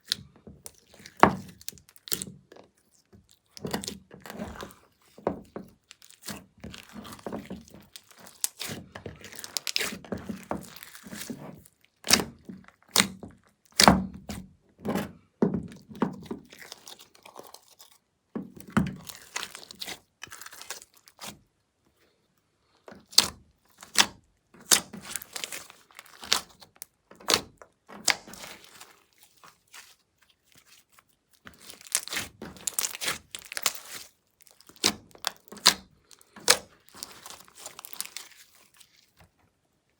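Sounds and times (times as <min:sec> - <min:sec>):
slime squelching by hand: 0:00.0 - 0:21.5, 0:22.9 - 0:39.2.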